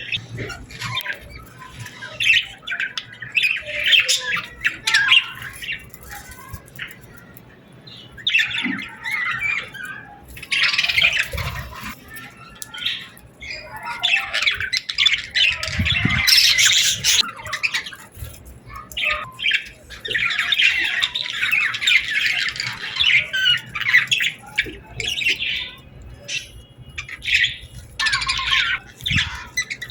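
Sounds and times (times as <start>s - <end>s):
birds chirping and squawking: 0.0s - 29.9s.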